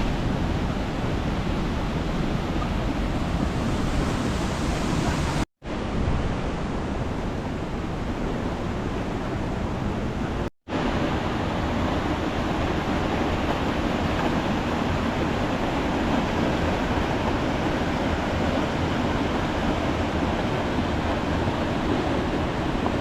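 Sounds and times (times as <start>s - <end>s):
river rushing: 0.0s - 23.0s
waterfall: 0.0s - 23.0s.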